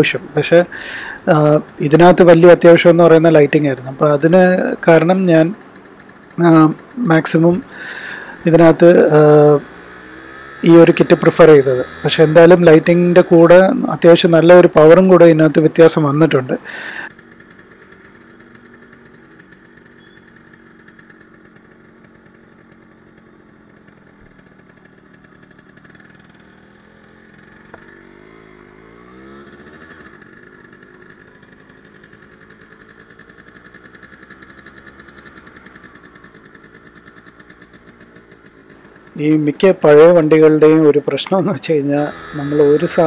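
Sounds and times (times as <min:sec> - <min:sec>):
motorcycle two-stroke engine running: 0:00.0 - 0:43.0.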